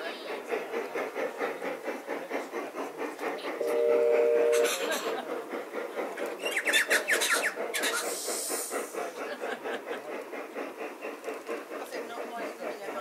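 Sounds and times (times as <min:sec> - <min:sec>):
model steam train chuffing: 0:00.0 - 0:13.0
steam hiss: 0:00.0 - 0:13.0.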